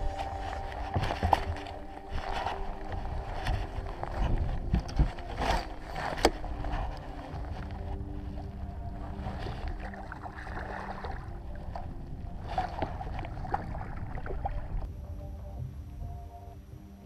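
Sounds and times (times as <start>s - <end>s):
waves lapping against hull: 0.0s - 14.9s
wind on microphone: 0.0s - 16.7s
faint steady hum: 0.0s - 17.0s.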